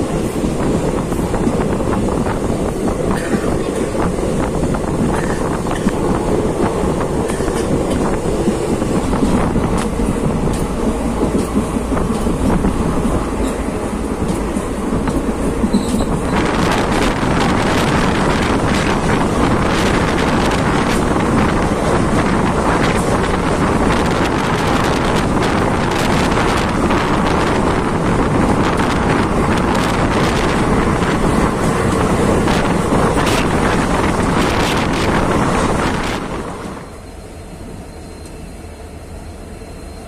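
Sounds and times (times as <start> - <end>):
wind buffeting microphone: 0.0 - 37.0
train running rumble: 0.0 - 40.0.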